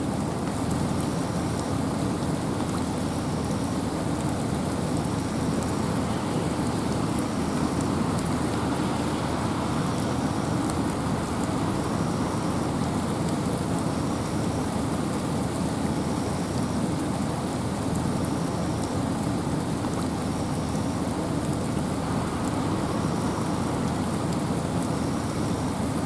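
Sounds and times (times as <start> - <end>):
steady rain: 0.0 - 26.0
wind: 0.0 - 26.0.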